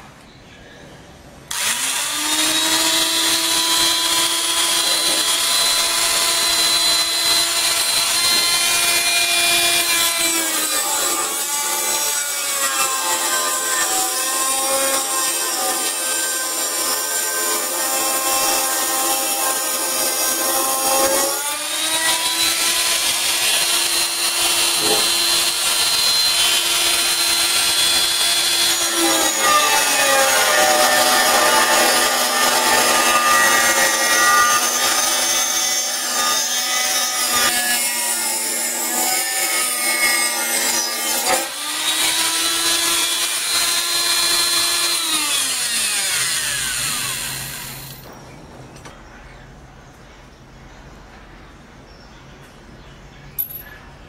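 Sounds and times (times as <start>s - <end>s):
angle grinder whining: 1.5s - 48.1s
grinder disc cutting steel: 1.5s - 48.1s.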